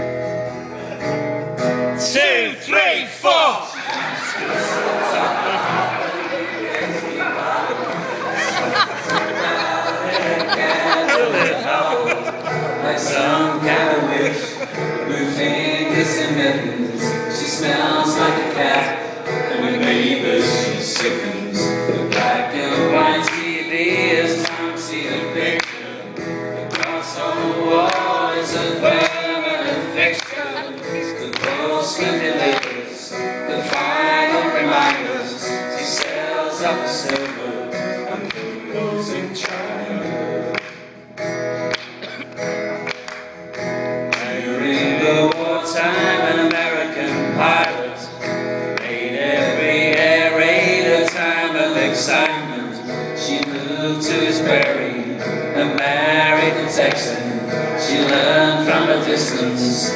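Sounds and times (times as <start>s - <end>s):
acoustic guitar strumming: 0.0s - 59.9s
people singing together: 3.6s - 41.0s, 44.0s - 59.9s.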